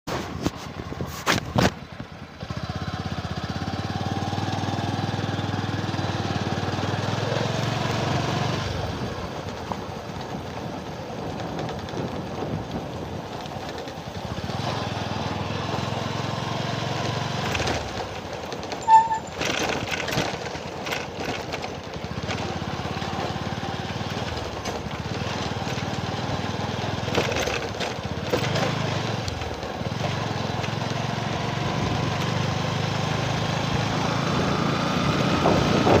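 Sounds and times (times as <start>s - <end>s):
small engine running: 2.4s - 36.0s.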